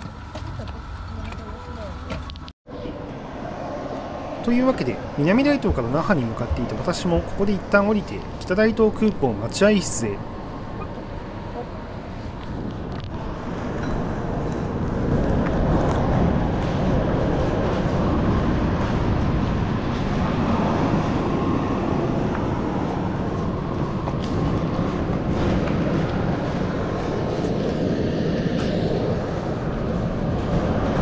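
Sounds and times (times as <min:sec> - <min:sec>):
airliner engine rumble: 0:00.0 - 0:31.0.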